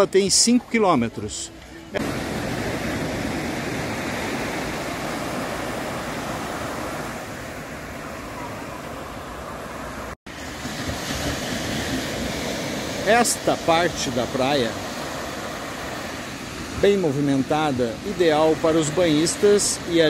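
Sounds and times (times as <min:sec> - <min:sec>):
small waves breaking on sand: 0:01.7 - 0:20.0.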